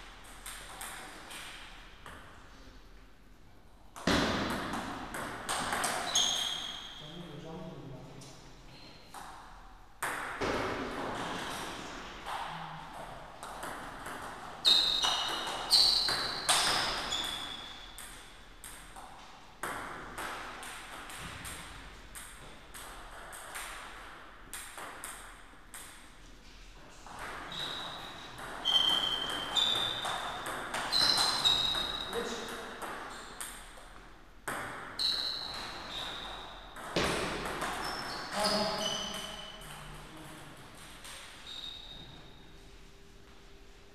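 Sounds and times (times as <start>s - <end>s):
table tennis ball hits and bounces: 0.0s - 2.4s, 4.0s - 7.0s, 9.1s - 26.2s, 27.1s - 41.5s.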